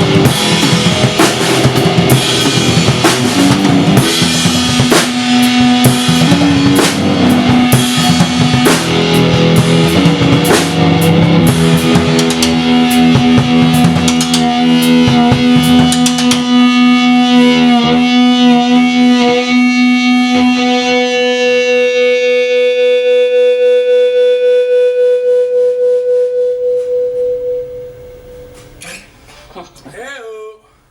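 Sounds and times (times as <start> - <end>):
drum kit playing: 0.0 - 21.4, 25.3 - 29.5
guitar playing: 0.0 - 28.8.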